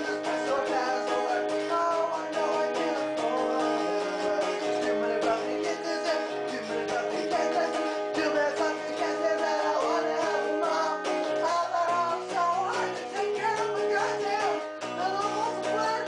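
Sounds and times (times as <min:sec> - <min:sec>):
electric guitar strumming chords: 0:00.0 - 0:16.0
man singing loudly: 0:00.0 - 0:16.0.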